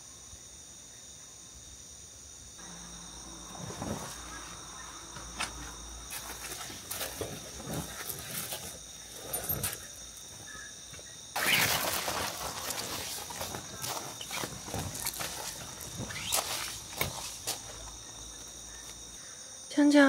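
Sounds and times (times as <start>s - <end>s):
insects chirping at night: 0.0s - 20.0s.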